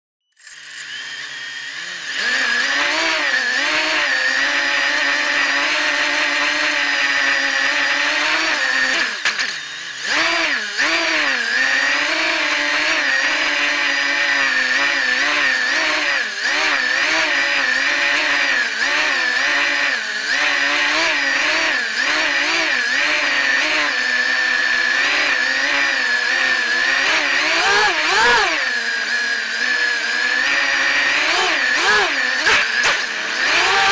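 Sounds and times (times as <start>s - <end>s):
quadcopter motors buzzing: 0.3s - 33.9s.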